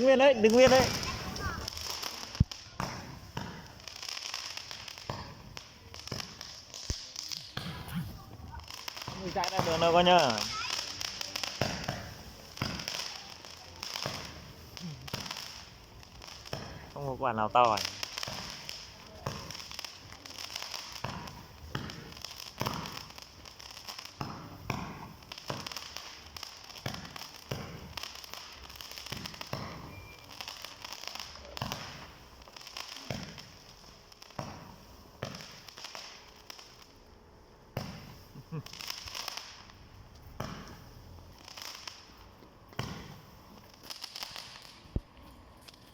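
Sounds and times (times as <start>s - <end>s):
crackling hiss: 0.0s - 45.9s
fireworks popping: 0.0s - 45.9s.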